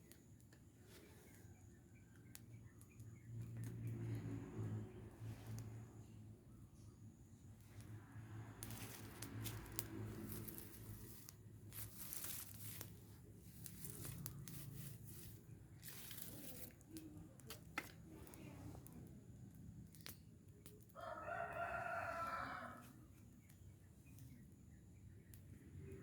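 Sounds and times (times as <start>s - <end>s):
fire crackling and snapping: 0.0s - 26.0s.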